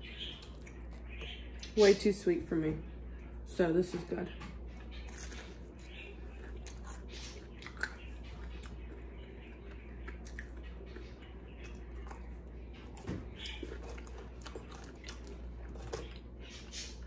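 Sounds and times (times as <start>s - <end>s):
person chewing food: 0.1s - 1.8s, 4.6s - 17.0s.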